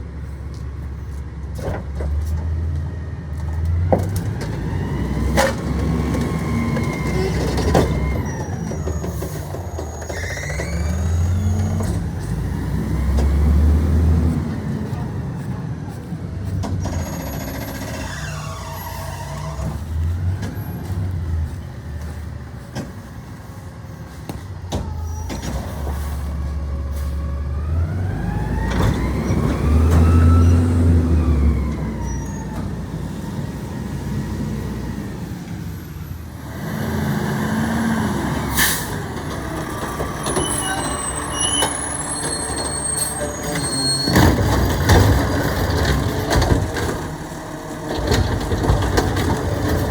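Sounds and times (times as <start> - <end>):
garbage truck engine running: 0.0 - 49.9.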